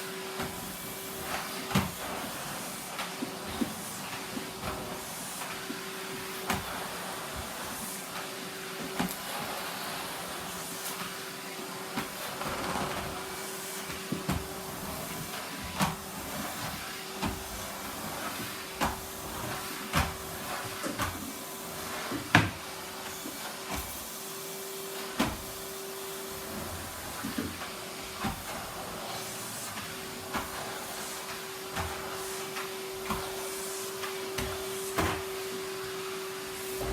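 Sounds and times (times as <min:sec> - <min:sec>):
vacuum cleaner humming: 0:00.0 - 0:36.9.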